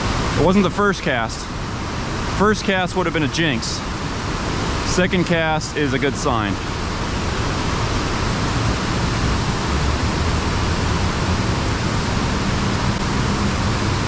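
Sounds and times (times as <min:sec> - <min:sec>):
water rushing over a dam: 0:00.0 - 0:14.0.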